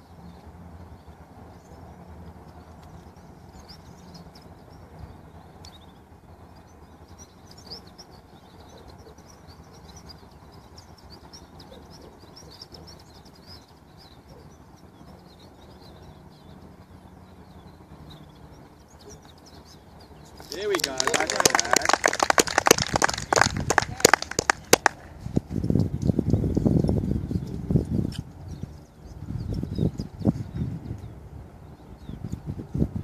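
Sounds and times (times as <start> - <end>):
low outdoor rumble: 0.0 - 33.0
small birds chirping: 0.0 - 33.0.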